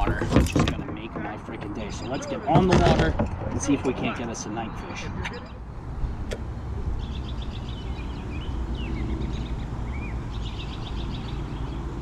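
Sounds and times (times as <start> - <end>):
birds chattering and chirping: 0.0 - 12.0.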